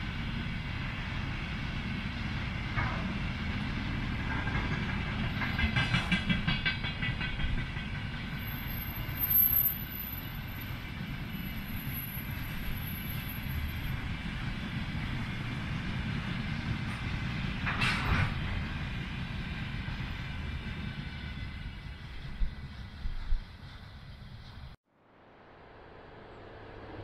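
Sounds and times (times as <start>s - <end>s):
train wheels rumbling on rail: 0.0s - 24.8s.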